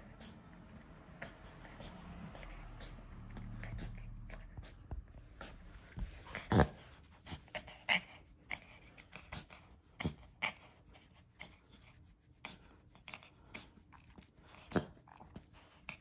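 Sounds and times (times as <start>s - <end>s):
dog breathing noisily: 0.0s - 16.0s.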